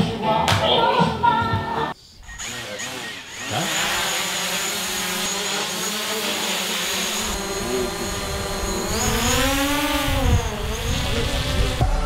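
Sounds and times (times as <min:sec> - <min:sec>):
drone propellers whining: 0:02.2 - 0:12.0.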